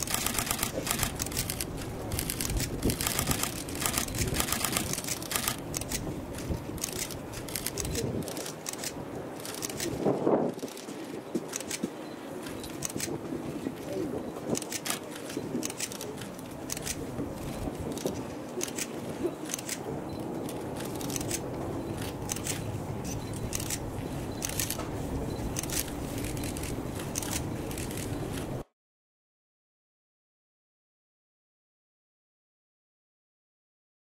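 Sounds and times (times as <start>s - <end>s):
low background noise: 0.0s - 28.7s.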